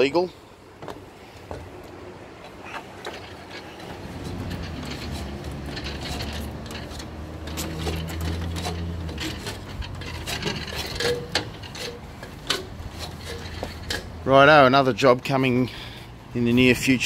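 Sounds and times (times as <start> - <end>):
shoes and hands on ladder rungs: 0.0 - 16.9.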